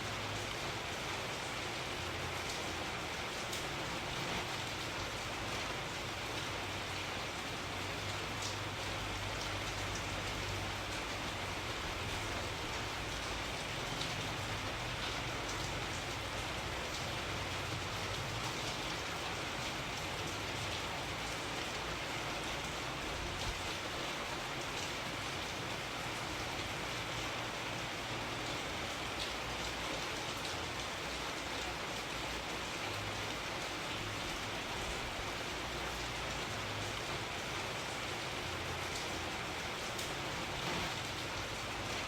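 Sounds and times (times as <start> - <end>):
rain falling: 0.0 - 42.0.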